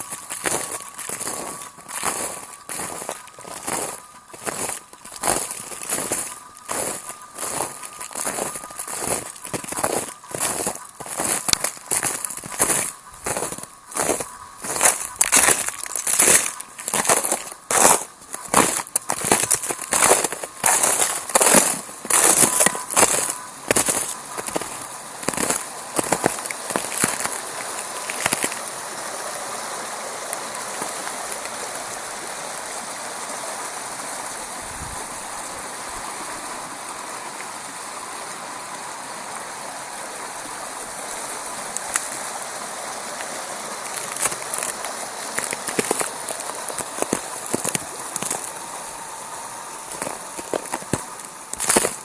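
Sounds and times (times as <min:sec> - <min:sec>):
sharp crunching crackles: 0:00.0 - 0:32.8, 0:41.1 - 0:52.0
rushing water: 0:00.0 - 0:52.0.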